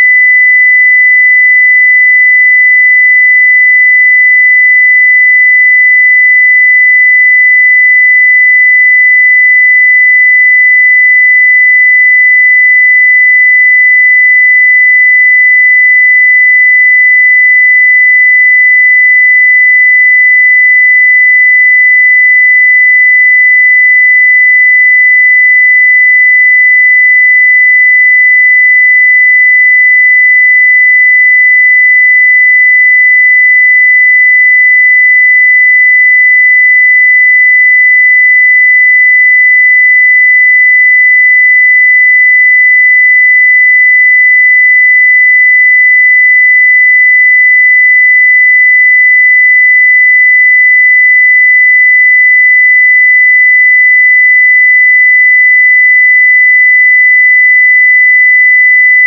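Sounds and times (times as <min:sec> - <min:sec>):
sine wave test tone: 0:00.0 - 0:59.0.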